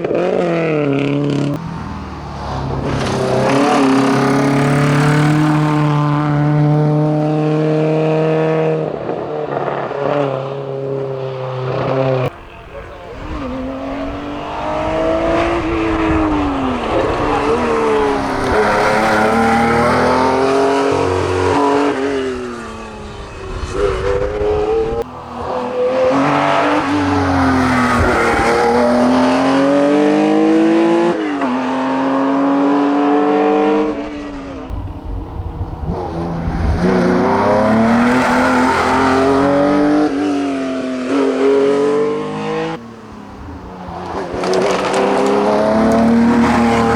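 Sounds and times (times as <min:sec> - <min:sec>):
race car engine at full throttle: 0:00.0 - 0:46.9.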